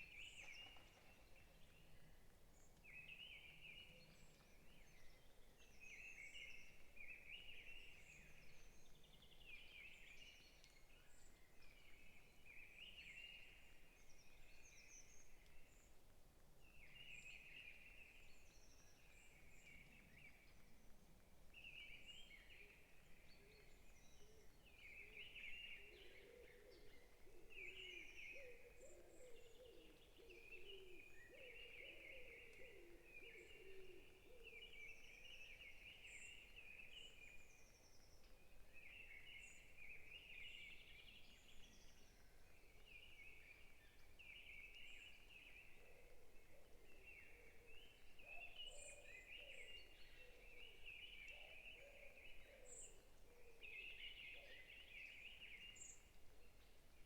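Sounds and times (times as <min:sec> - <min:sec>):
forest birds chirping: 0:00.0 - 0:57.0.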